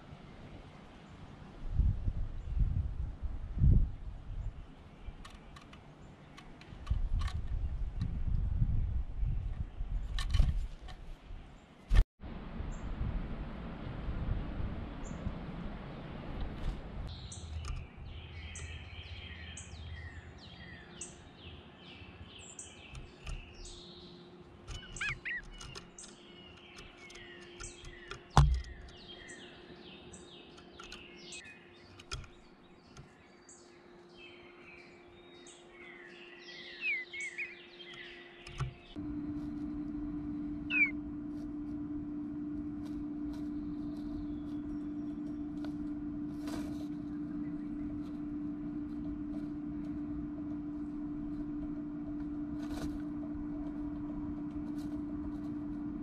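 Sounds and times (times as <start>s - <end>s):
songbirds chirping: 0.0s - 3.3s, 3.9s - 12.0s, 14.8s - 56.0s
steady low hum: 0.0s - 56.0s.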